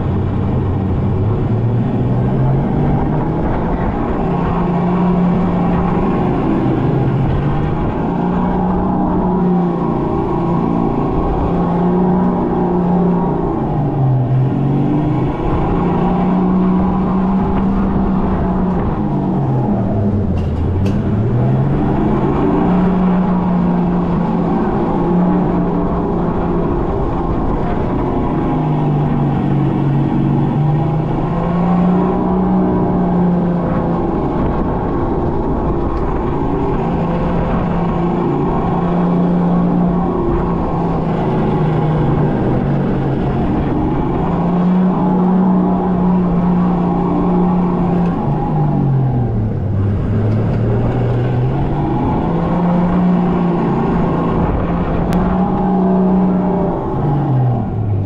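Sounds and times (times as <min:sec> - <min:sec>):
wind and tyre noise: 0:00.0 - 0:58.0
electric go-kart motor whining: 0:02.4 - 0:58.0.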